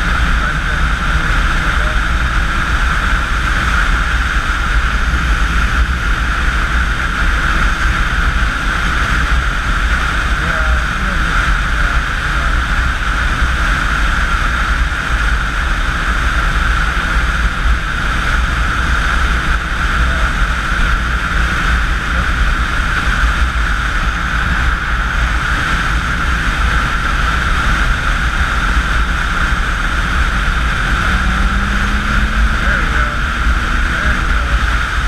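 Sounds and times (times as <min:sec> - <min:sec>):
motorcycle engine drone: 0:00.0 - 0:35.0
wind rushing over microphone: 0:00.0 - 0:35.0.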